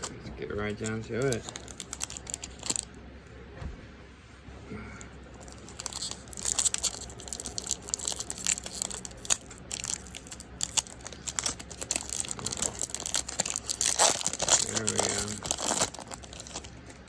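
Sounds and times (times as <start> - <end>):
plastic packaging crinkling: 0.0 - 3.0, 5.3 - 17.0.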